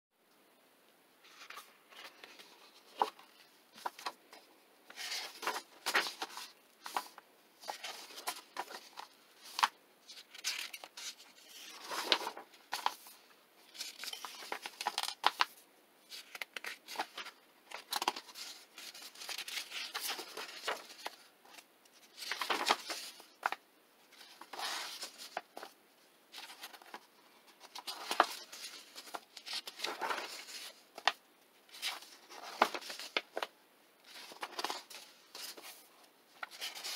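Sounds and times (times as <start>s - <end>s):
paper pages rustling: 1.2s - 36.9s.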